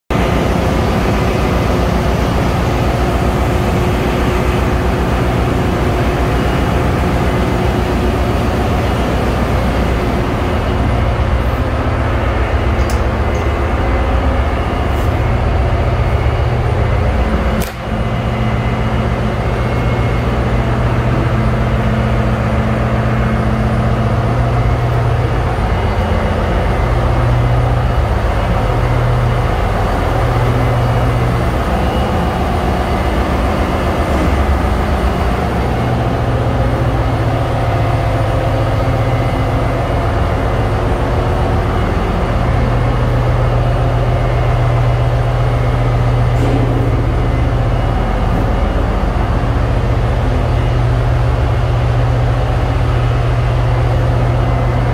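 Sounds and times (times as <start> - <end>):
engine room machinery drone: 0.1 - 54.9.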